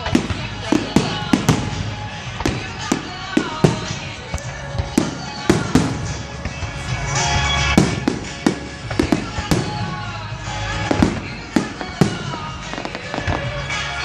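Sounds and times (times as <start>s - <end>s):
fireworks bangs: 0.0s - 14.0s
music playing: 0.0s - 14.0s.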